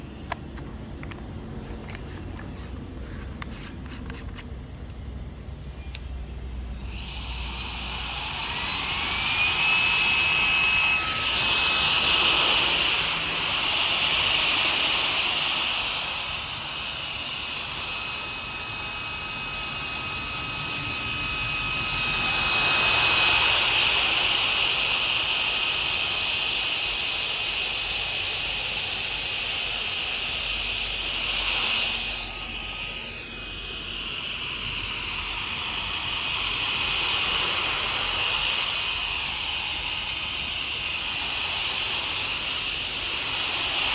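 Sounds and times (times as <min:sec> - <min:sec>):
air duster fan motor whining: 0:00.0 - 0:43.9.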